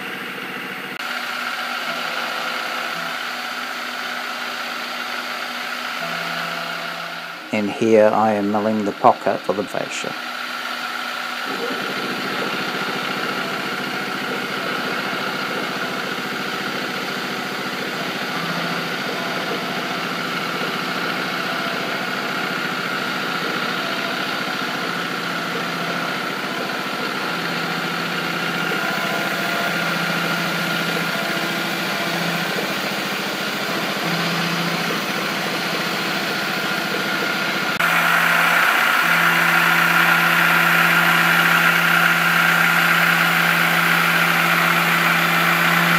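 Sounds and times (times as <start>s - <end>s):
milling machine whine and hum: 0.0s - 45.9s.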